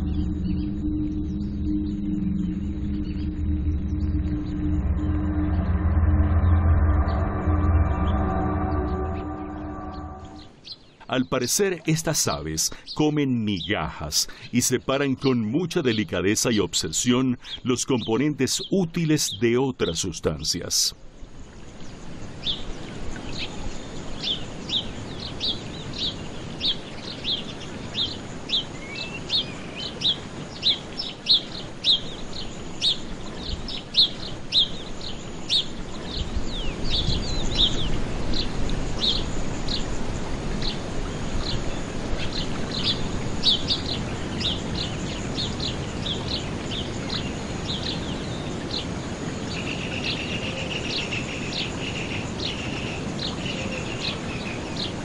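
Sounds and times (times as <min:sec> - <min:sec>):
high insect trill: 0:00.0 - 0:55.0
outdoor background noise: 0:00.0 - 0:55.0.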